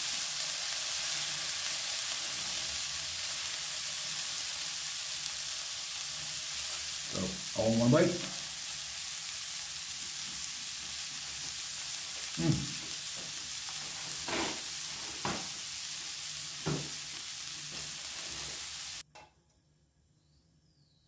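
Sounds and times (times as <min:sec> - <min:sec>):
beef sizzling on grill pan: 0:00.0 - 0:19.0.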